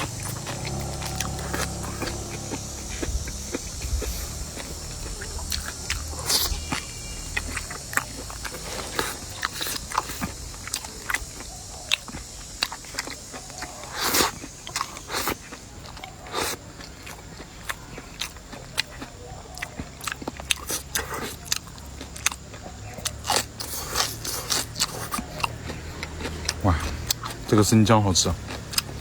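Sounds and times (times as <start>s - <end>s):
chewing and biting: 0.0s - 29.0s.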